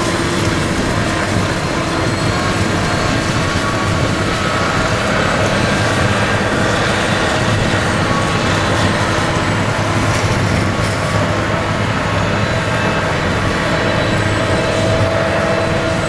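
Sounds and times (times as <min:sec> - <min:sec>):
harvester machine drone: 0:00.0 - 0:16.0
steady whining tones: 0:00.0 - 0:16.0
tractor engine: 0:00.0 - 0:16.0.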